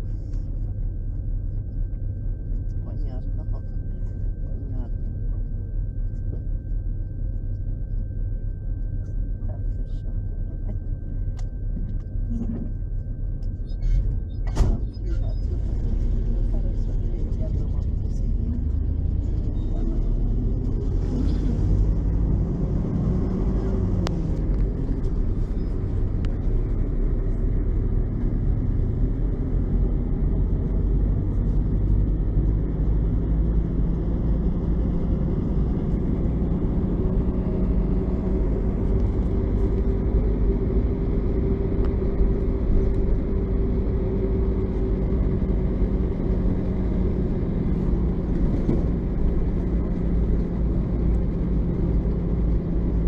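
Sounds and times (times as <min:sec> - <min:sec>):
bus engine rumbling: 0:00.0 - 0:53.0.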